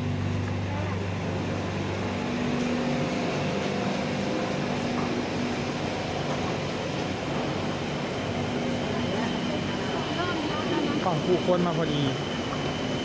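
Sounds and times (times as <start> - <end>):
station platform noise: 0.0 - 13.0.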